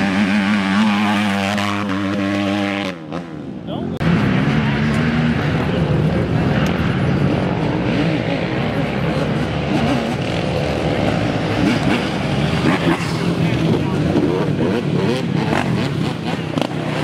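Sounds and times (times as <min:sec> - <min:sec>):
atv engines revving under load: 0:00.0 - 0:17.0.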